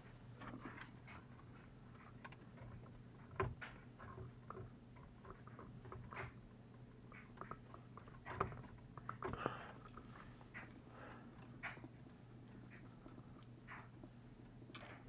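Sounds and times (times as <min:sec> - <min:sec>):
clicks and handling noises: 0:00.0 - 0:15.0
low steady hum: 0:00.0 - 0:15.0.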